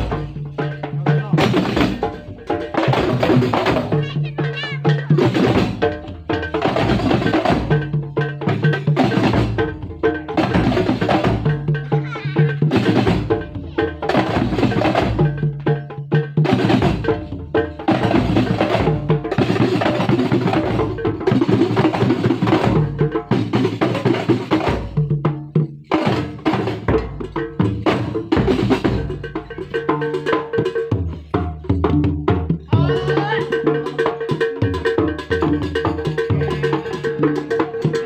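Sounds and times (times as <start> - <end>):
frame drums playing fast rhythm: 0.0 - 38.0.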